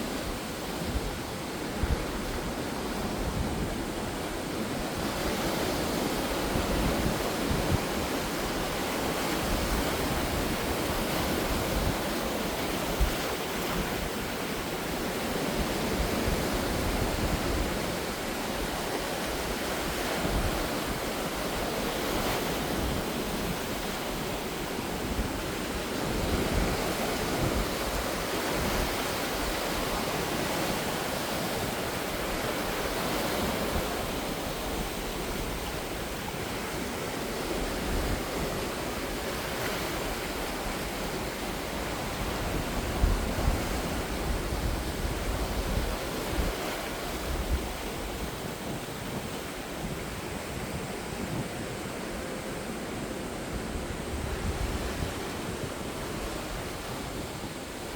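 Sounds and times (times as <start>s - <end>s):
sea waves washing on shore: 0.0s - 57.9s
wind rumble on microphone: 0.0s - 57.9s.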